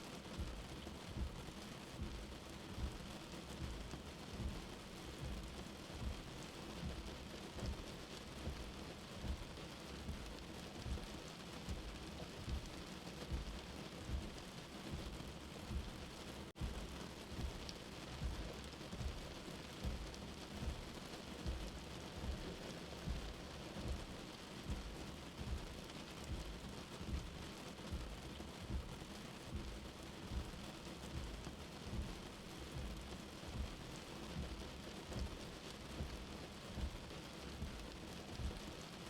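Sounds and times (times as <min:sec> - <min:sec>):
steady rain hiss: 0:00.0 - 0:39.0
soft low heartbeat: 0:00.1 - 0:39.0.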